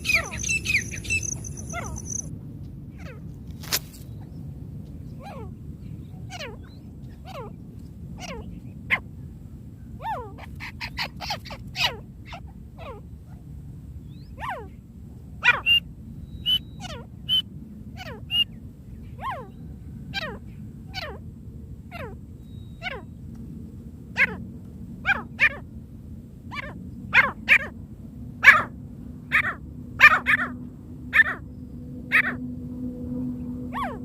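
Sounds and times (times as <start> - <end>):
low background noise: 0.0 - 34.0.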